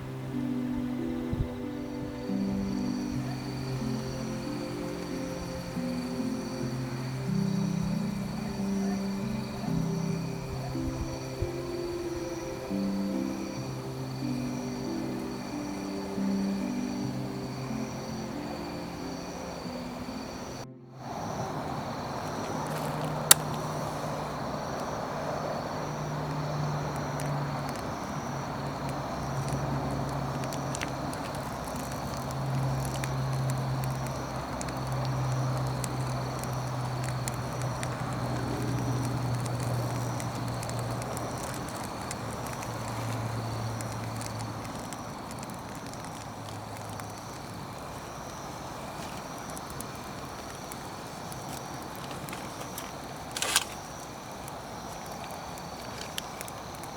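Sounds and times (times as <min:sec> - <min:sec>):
campfire crackling: 0:00.0 - 0:56.9.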